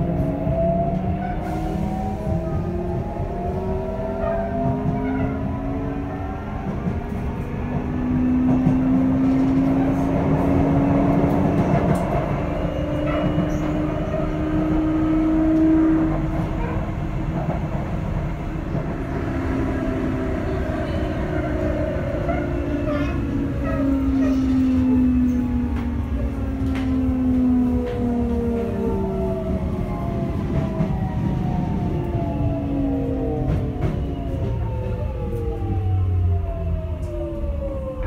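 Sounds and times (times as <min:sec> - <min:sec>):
train wheels rumbling: 0:00.0 - 0:38.0.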